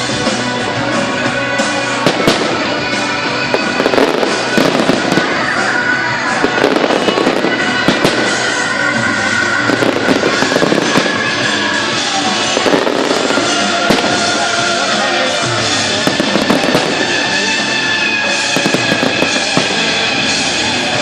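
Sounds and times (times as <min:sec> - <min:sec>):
fireworks bangs and pops: 0:00.0 - 0:21.0
music playing: 0:00.0 - 0:21.0.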